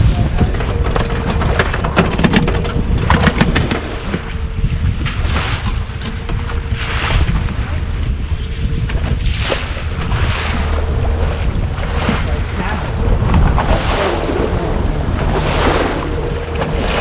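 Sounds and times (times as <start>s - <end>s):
outboard motor hum: 0.0s - 17.0s
sea water washing around boat: 0.0s - 17.0s
wind on microphone: 0.0s - 17.0s.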